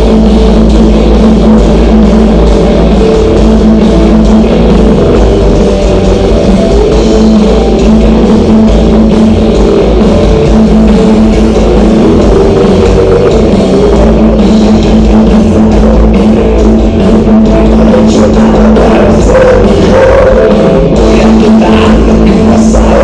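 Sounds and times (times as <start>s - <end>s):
rock band through loudspeakers: 0.0s - 23.0s.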